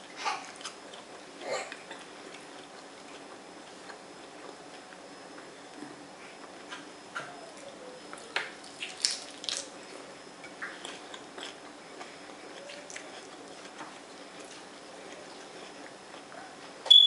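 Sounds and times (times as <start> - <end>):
mouth chewing crunchy food: 0.0 - 16.9.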